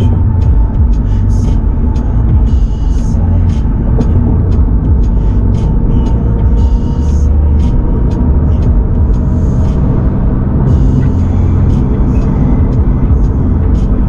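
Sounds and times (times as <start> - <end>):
car engine running on road: 0.0 - 14.0
drivetrain and road rumble: 0.0 - 14.0.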